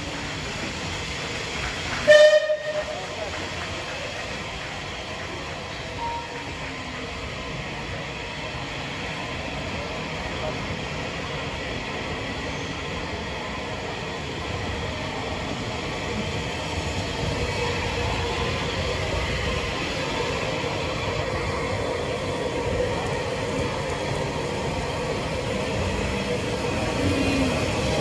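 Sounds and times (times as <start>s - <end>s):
steam locomotive rumbling hiss: 0.0s - 28.0s.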